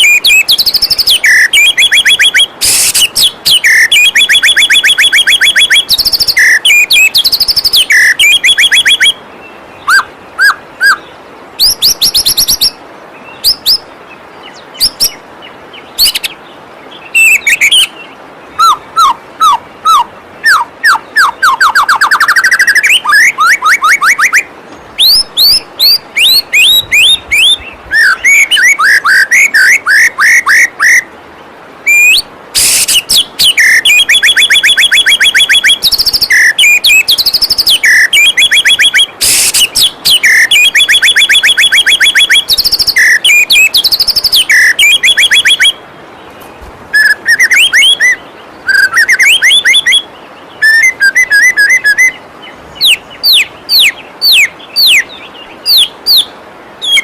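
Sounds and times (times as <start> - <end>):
bird singing varied song: 0.0 - 57.0
waterfall rushing: 0.0 - 57.0.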